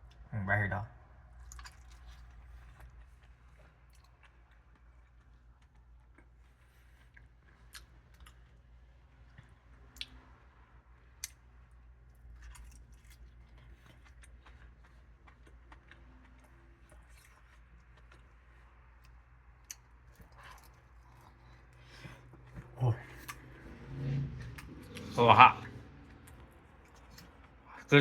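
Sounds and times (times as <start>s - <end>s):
low steady hum: 0.0s - 28.0s
chewing with clicks and smacks: 1.2s - 28.0s.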